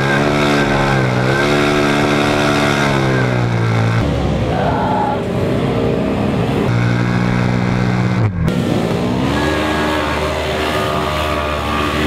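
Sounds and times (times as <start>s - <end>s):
engine running at high revs: 0.0s - 12.0s.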